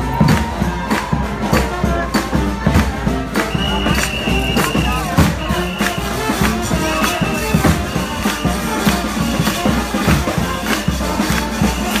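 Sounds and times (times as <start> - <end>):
procession band playing: 0.0 - 12.0
steady drum beat: 0.0 - 12.0.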